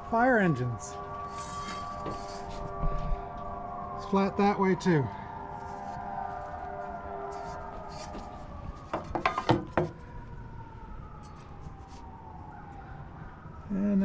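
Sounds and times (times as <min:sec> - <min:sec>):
distant fire engine sirens: 0:00.0 - 0:14.0.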